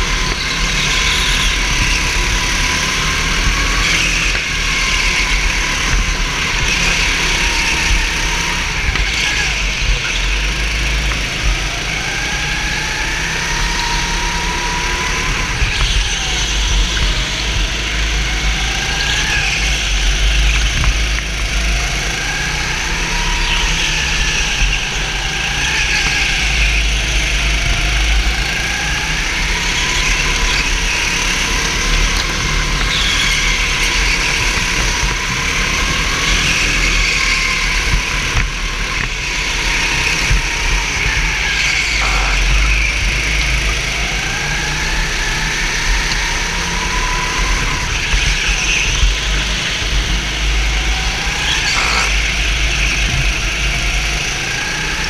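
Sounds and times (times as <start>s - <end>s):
racing kart engine: 0.0s - 55.0s.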